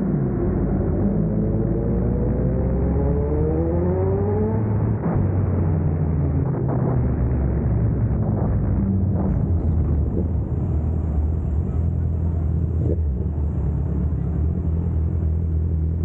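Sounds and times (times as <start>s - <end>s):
motorcycle accelerating: 0.0s - 16.0s.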